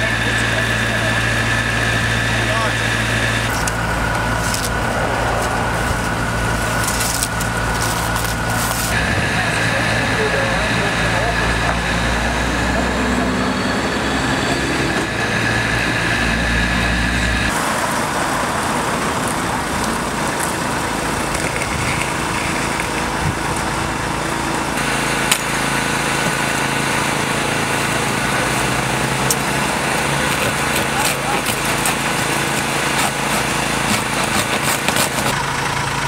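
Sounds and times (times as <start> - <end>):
outdoor background noise: 0.0 - 36.0
small engine running: 0.0 - 36.0.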